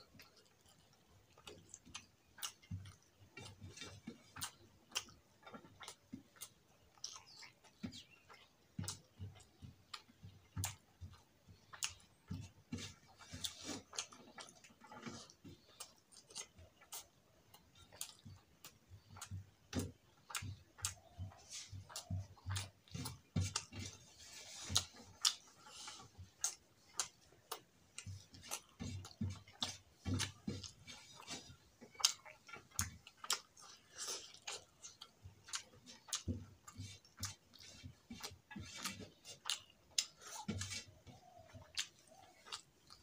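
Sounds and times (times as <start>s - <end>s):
man chewing food: 0.0s - 43.0s.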